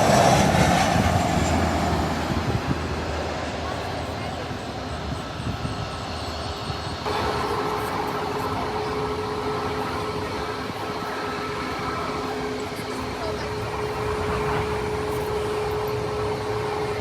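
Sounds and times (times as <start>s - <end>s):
jet airliner engine rumbling: 0.0s - 17.0s
steady engine whine: 0.0s - 17.0s.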